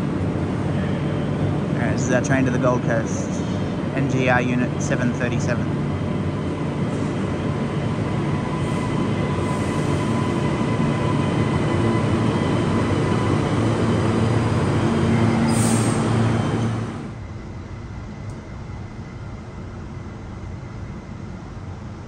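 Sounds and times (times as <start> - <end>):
electric train rumble and whine: 0.0 - 22.0.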